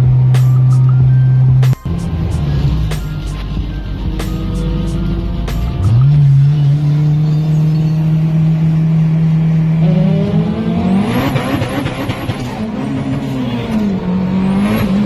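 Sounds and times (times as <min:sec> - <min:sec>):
car engine revving: 0:00.0 - 0:15.0
road and wind noise: 0:00.0 - 0:15.0.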